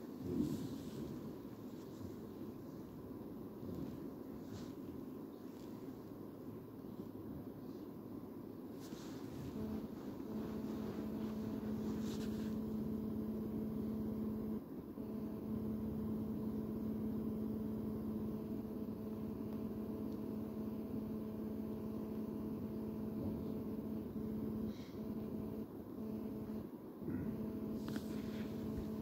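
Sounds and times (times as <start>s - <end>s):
machine hum with low rumble: 0.0s - 29.0s.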